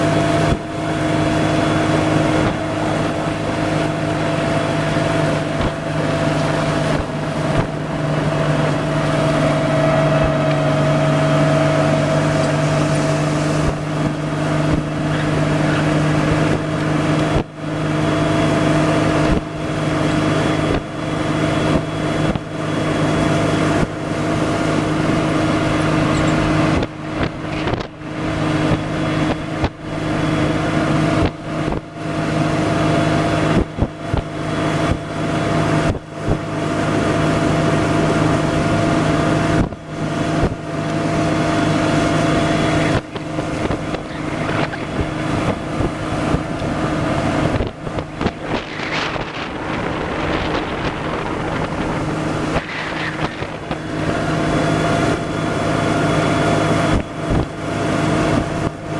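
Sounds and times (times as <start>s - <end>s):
motorboat engine droning: 0.0s - 58.9s
water and air noise: 0.0s - 58.9s.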